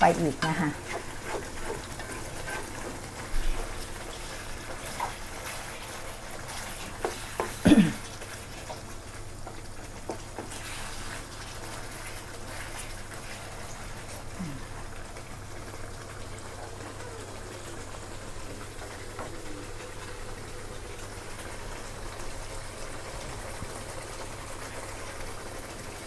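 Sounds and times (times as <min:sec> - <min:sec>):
liquid splashing and bubbling in pan: 0:00.0 - 0:26.0.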